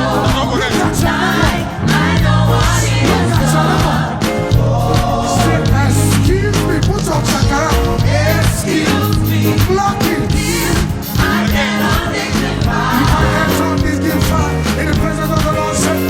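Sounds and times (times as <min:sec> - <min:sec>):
steady bass line: 0:00.0 - 0:11.1, 0:12.4 - 0:15.4
voices singing gospel music: 0:00.0 - 0:16.0.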